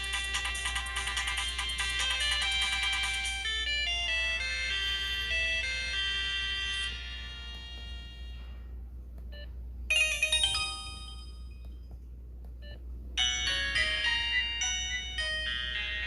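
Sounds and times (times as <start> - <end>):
phone ringtone melodies: 0.0 - 8.6, 9.9 - 11.8, 13.2 - 16.0.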